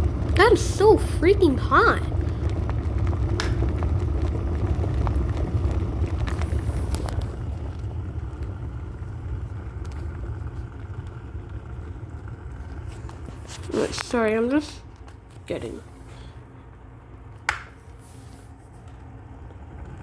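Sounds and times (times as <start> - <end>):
electric kettle boiling: 0.0 - 20.0.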